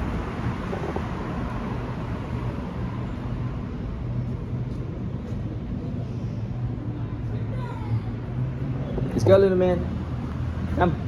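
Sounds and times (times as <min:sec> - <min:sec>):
low engine hum: 0:00.0 - 0:11.0
traffic noise: 0:00.0 - 0:11.0.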